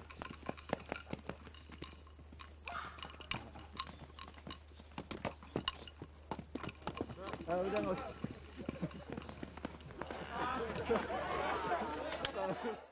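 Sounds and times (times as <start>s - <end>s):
horse hooves on dirt: 0.0s - 12.9s.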